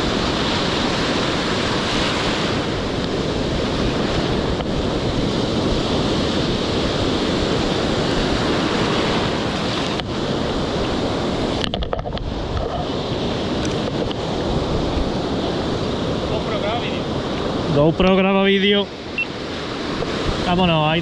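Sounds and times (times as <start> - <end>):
heavy surf breaking on shore: 0.0 - 21.0
wind buffeting microphone: 0.0 - 21.0.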